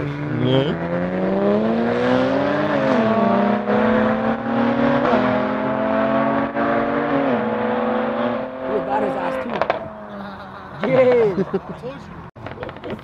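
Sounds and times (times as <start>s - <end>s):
car engine accelerating: 0.0s - 10.4s.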